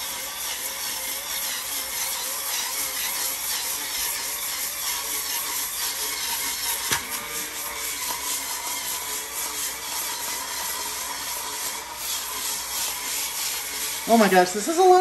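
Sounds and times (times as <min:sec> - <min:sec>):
bristles scrubbing tile floor: 0:00.0 - 0:15.0
spin scrubber motor running: 0:00.0 - 0:15.0.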